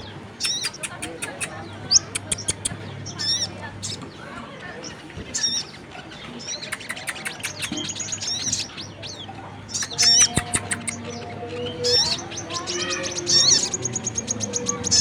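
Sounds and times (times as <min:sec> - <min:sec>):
sunbird chirps and trills: 0:00.0 - 0:15.0.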